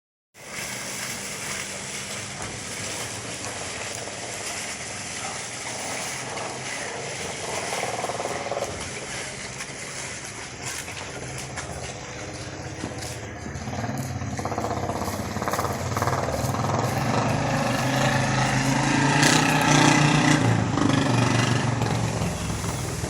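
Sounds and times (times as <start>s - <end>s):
water splashing: 0.4s - 23.0s.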